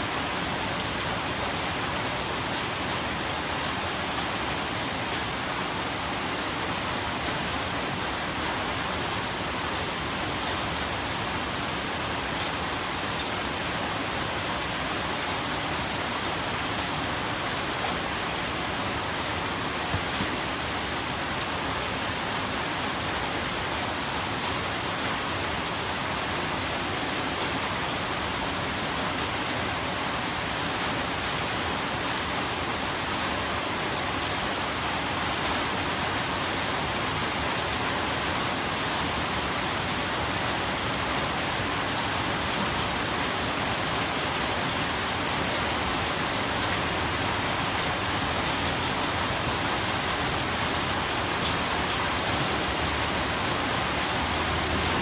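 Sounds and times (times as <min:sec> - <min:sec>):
steady rain on a surface: 0:00.0 - 0:55.0.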